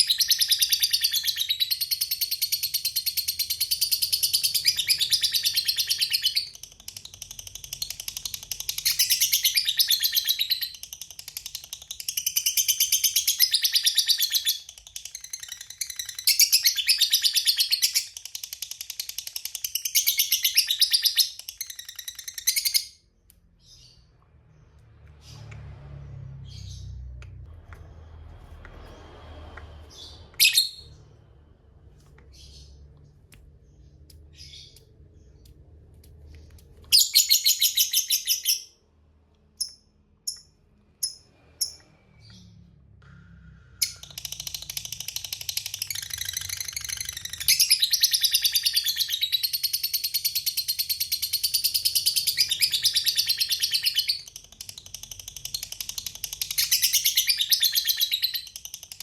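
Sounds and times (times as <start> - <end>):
lovebird chirping and chattering: 0.0 - 25.4, 29.9 - 31.4, 32.3 - 42.8, 43.7 - 59.0.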